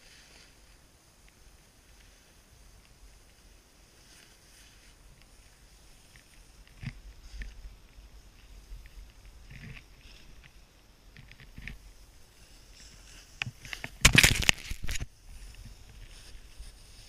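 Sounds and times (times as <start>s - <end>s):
snowboard scraping over snow: 0.0s - 14.1s, 15.2s - 17.0s.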